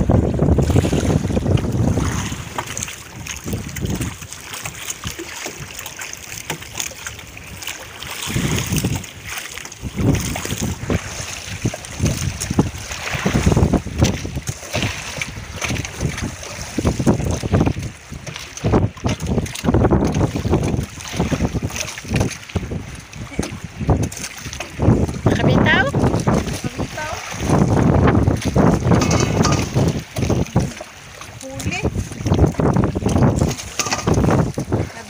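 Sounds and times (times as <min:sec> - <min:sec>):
sea water washing: 0:00.0 - 0:35.0
wind buffeting microphone: 0:00.0 - 0:35.0.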